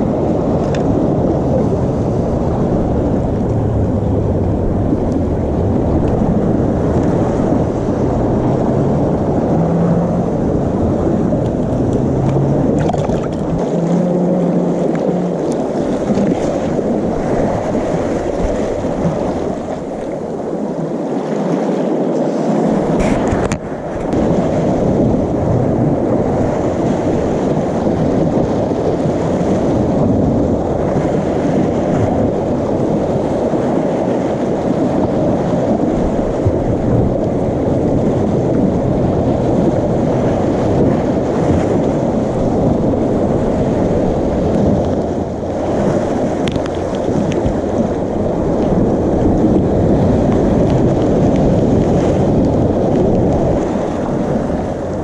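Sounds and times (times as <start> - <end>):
surf washing against rocks: 0.0 - 55.0
wind rumbling on microphone: 0.0 - 55.0.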